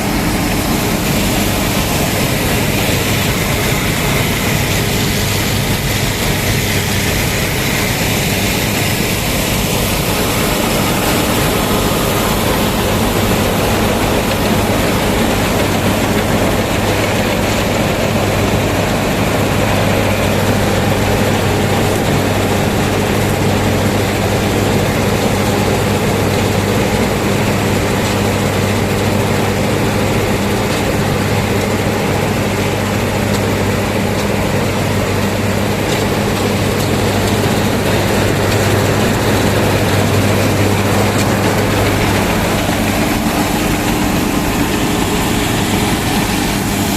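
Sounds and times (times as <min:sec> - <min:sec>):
combine harvester engine hum: 0:00.0 - 0:46.9
threshing machinery clatter: 0:00.0 - 0:46.9.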